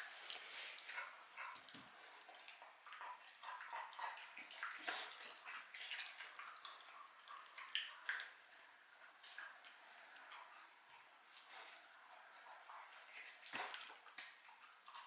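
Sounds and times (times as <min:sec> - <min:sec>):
dog chewing and licking: 0:00.2 - 0:15.0.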